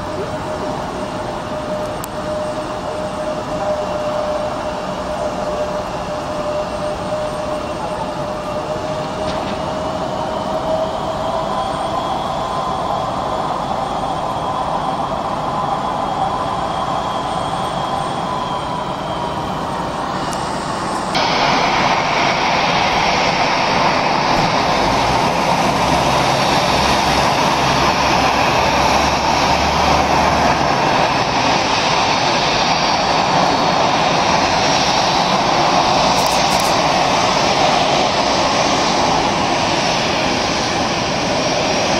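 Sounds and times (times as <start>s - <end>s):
jet engines taxiing: 0.0s - 41.9s.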